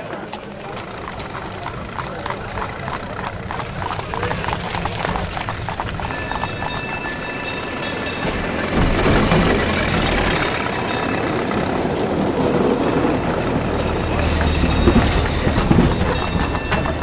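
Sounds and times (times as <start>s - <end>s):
streetcar rumbling on rails: 0.0s - 17.0s.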